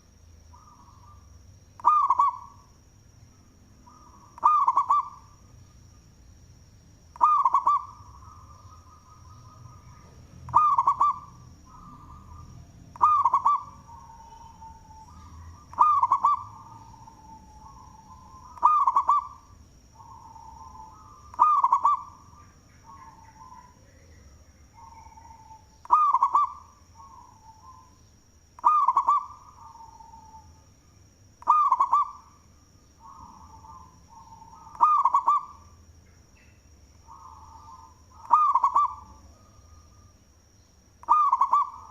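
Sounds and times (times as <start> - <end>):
dove cooing: 0.0 - 2.7, 3.8 - 5.4, 7.2 - 27.9, 28.6 - 30.6, 31.4 - 32.3, 33.0 - 35.7, 37.1 - 39.7, 41.0 - 41.9.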